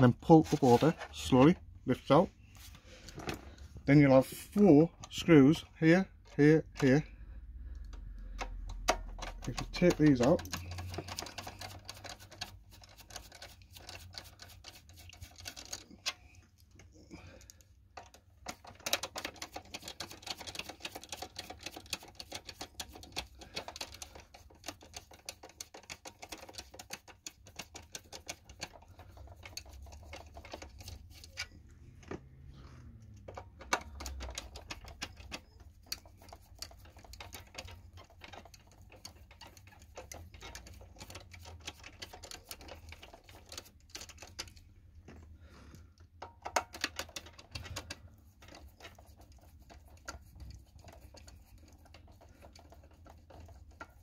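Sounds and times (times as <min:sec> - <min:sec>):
plastic parts handled: 0:00.0 - 0:07.1, 0:07.8 - 0:54.0.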